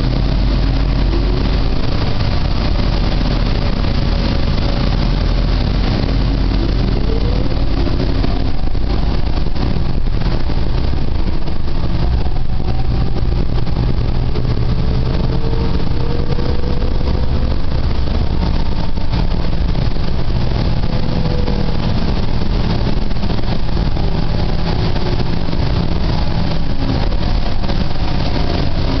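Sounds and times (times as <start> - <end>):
bus drivetrain drone: 0.0 - 29.0
faint rising whine: 0.0 - 29.0
road noise: 0.0 - 29.0.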